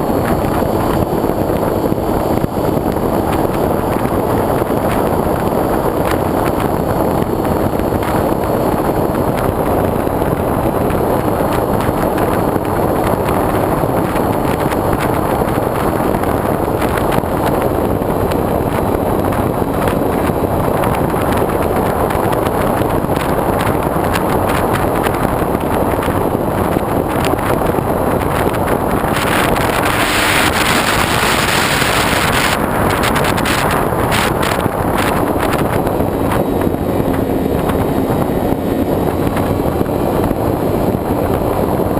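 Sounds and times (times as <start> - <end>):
airflow rushing over camera: 0.0 - 41.9.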